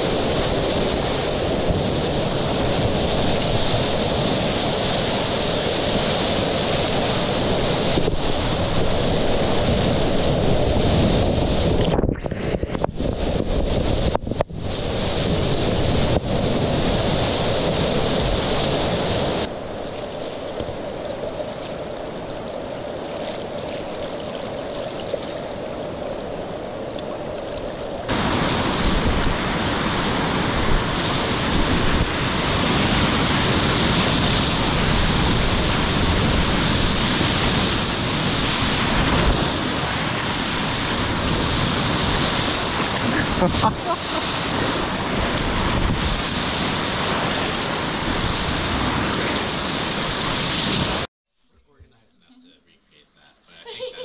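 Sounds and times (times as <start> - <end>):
wind buffeting microphone: 0.0 - 51.1.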